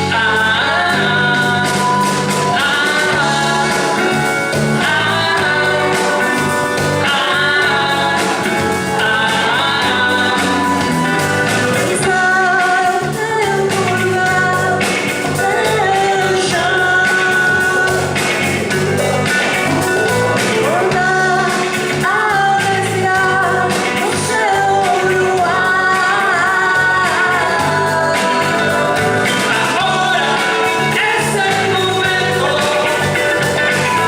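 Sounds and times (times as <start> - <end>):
guitar bass and drums: 0.0 - 34.0
person singing: 0.0 - 34.0.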